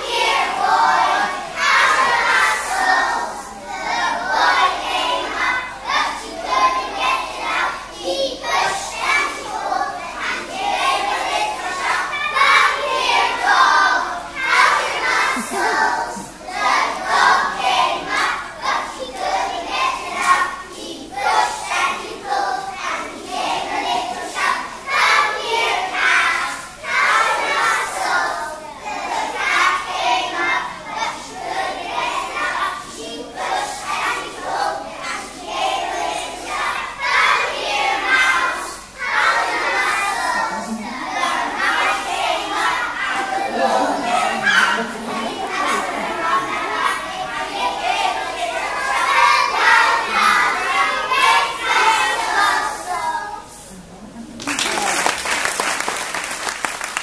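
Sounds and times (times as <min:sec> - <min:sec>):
children singing together: 0:00.0 - 0:53.7.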